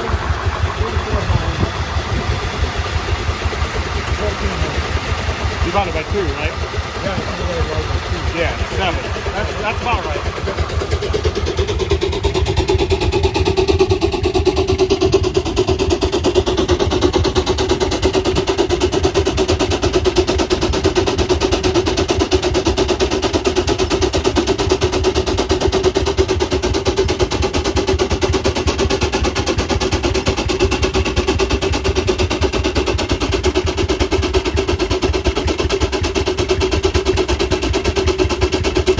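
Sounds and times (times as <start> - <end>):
steam engine rapid beat: 0.0 - 38.9.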